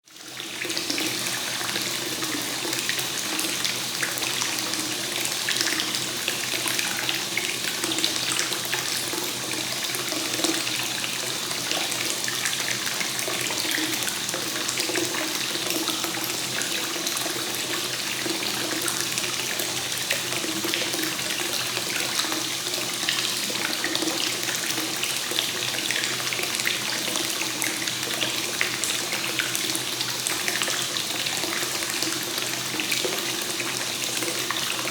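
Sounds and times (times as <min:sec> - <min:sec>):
water flowing into a bath: 0:00.1 - 0:34.9.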